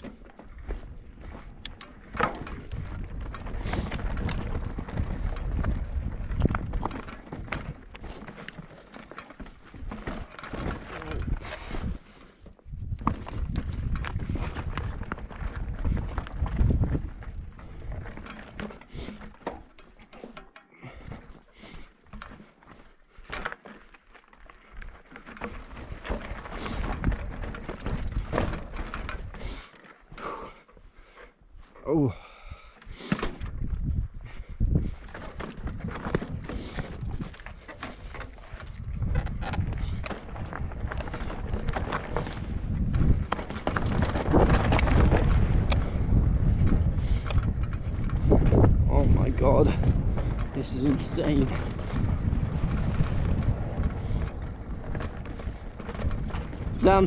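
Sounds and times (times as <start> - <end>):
wind rumble on microphone: 0.0 - 8.2, 9.7 - 19.1, 24.8 - 29.6, 33.3 - 57.0
bike rattling over rocks: 0.0 - 31.2, 32.0 - 57.0.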